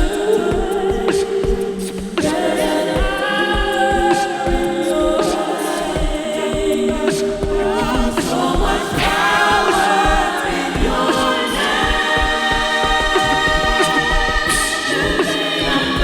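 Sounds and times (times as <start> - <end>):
vocal group singing in harmony: 0.0 - 16.0.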